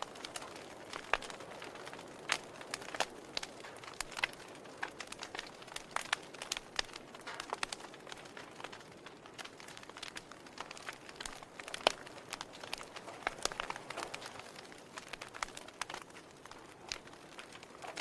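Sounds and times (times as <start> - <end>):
firewood crackling and popping: 0.0 - 18.0
soft steady fire hiss: 0.0 - 18.0.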